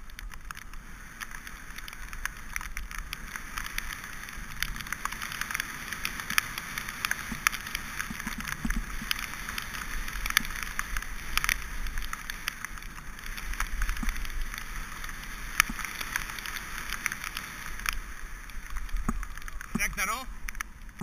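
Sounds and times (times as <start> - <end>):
bike tyres hissing on wet dirt: 0.0 - 21.0
grit clicking against bike frame: 0.0 - 21.0.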